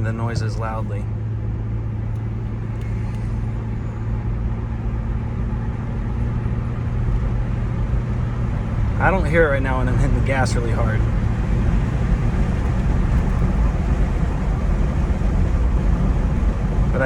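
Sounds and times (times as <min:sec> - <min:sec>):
engine and road hum in car cabin: 0:00.0 - 0:17.0.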